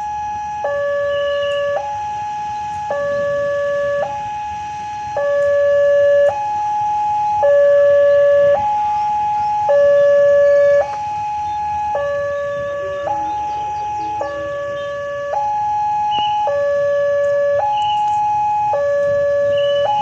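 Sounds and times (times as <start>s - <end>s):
level crossing two-tone alarm: 0.0s - 20.0s.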